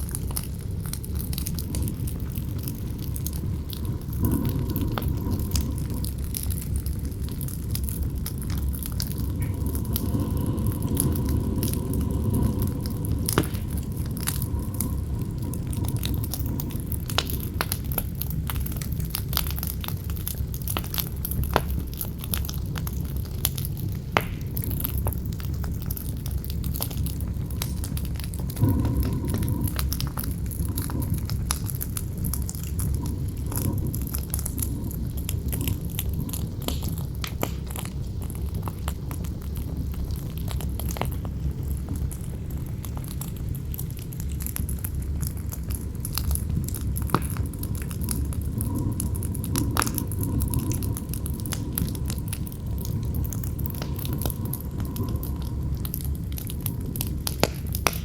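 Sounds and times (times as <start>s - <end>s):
campfire crackling and popping: 0.0s - 58.0s
wind rumbling and howling: 0.0s - 58.0s.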